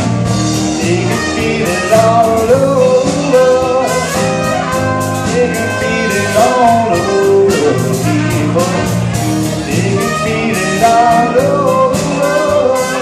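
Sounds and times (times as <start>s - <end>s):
live band playing: 0.0s - 13.0s
trumpet: 0.0s - 13.0s.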